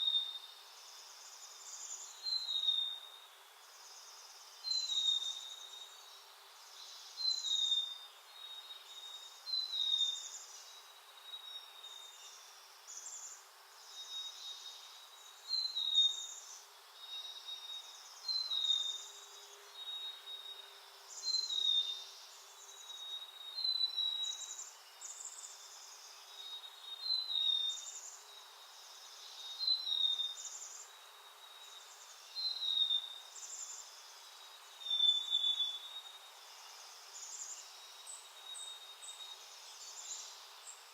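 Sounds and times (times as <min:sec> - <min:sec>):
faint steady hiss: 0:00.0 - 0:40.9
songbird chirping: 0:00.0 - 0:40.9.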